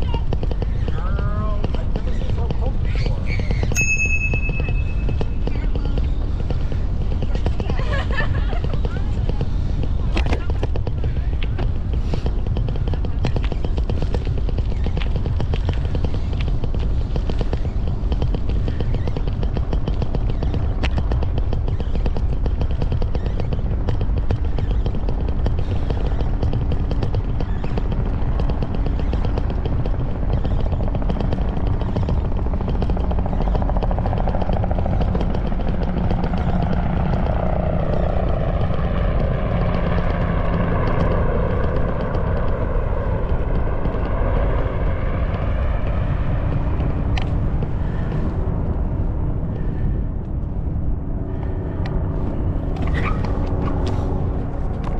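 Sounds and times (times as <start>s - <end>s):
road vehicle rumble: 0.0s - 54.9s.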